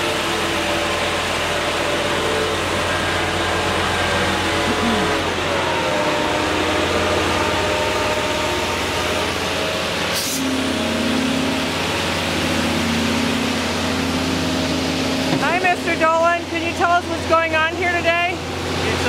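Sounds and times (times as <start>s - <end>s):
diesel engine and pump drone: 0.0s - 19.0s.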